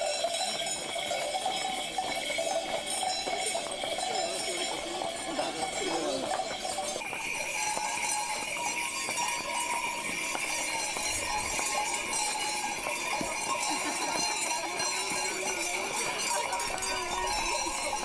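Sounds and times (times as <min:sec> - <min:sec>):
harness bells jingling: 0:00.0 - 0:18.0
hooves clopping on pavement: 0:00.0 - 0:18.0.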